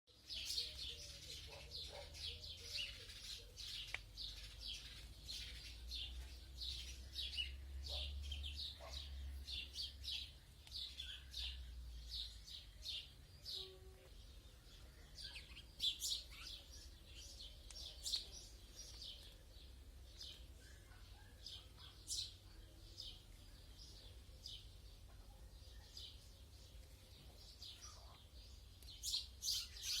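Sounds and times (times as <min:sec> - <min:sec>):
small birds chirping: 0:00.1 - 0:30.0.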